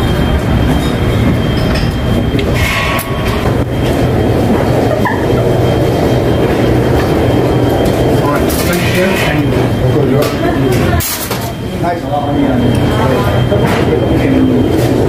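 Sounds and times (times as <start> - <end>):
machinery and ventilation rumble: 0.0 - 15.0.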